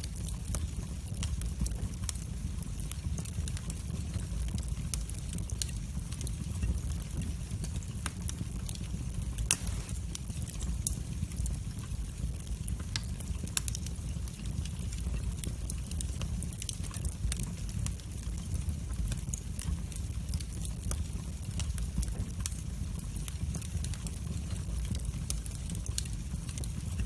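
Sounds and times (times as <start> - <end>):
fire crackles and pops: 0.0 - 27.0
low rumble of flame: 0.0 - 27.0.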